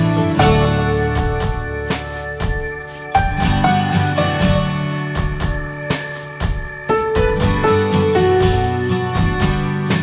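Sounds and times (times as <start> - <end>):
low musical accompaniment: 0.0 - 10.0
plucked guitar notes: 0.0 - 10.0.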